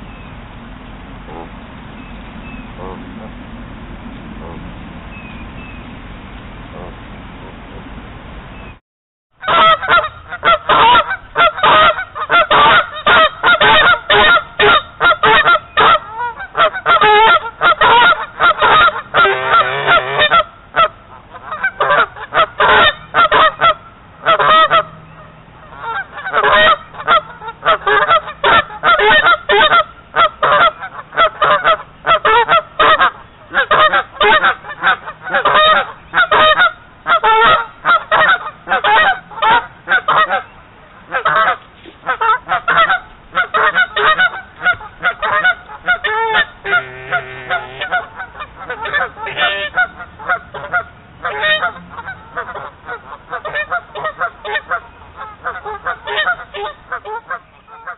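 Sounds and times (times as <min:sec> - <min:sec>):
geese honking loudly: 0:09.4 - 0:57.9.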